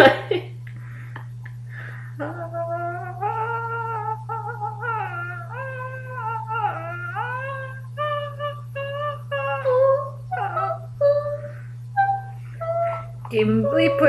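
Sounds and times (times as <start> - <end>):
steady low hum: 0.0 - 14.0
person humming: 1.8 - 14.0.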